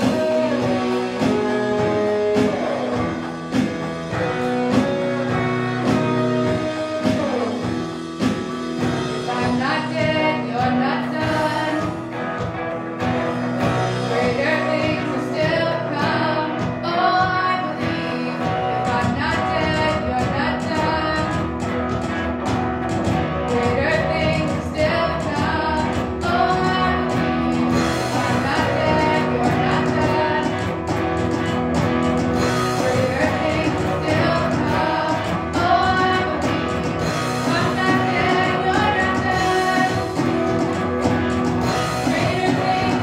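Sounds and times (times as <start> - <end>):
woman singing lead: 0.0 - 7.8, 8.8 - 12.2, 13.6 - 21.6, 23.4 - 31.3, 32.4 - 40.7, 41.6 - 43.0
drums: 0.0 - 43.0
electric guitar: 0.0 - 43.0
keyboard: 0.0 - 43.0.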